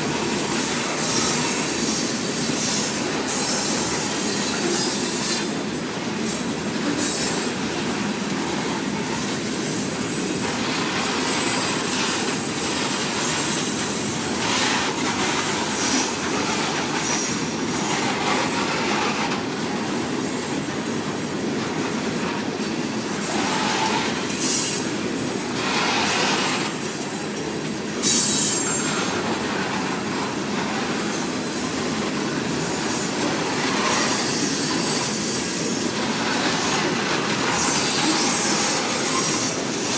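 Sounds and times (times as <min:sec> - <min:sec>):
wheel screech: 0:00.0 - 0:07.6, 0:08.8 - 0:20.3, 0:23.1 - 0:39.9
freight train rumble and clatter: 0:00.0 - 0:39.9.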